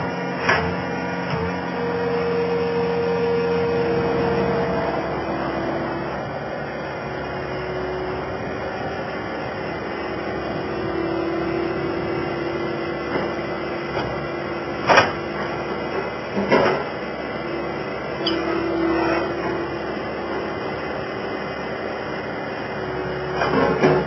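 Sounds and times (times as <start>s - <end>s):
skid steer loader running: 0.0s - 24.0s.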